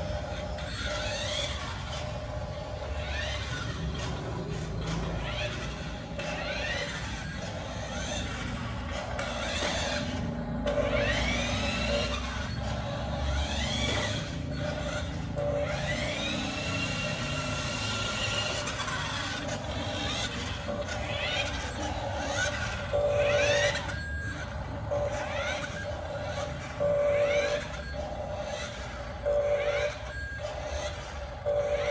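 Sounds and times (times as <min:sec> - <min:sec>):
toy truck motor whining: 0:00.0 - 0:31.9.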